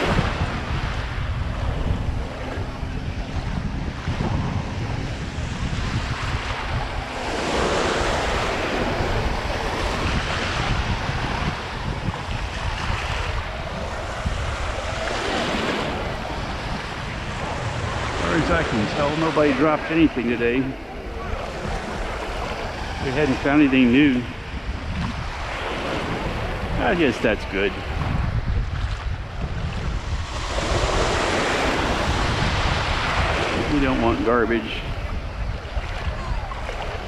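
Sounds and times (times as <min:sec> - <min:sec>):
sea surf splashing: 0:00.0 - 0:37.0
wind on microphone: 0:00.0 - 0:37.0.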